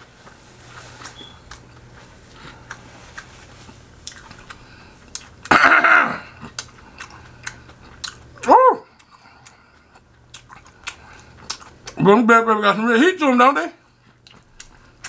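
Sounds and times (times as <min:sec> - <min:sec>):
chewing mouth sounds: 0:00.2 - 0:05.5, 0:06.2 - 0:12.0, 0:13.9 - 0:15.0.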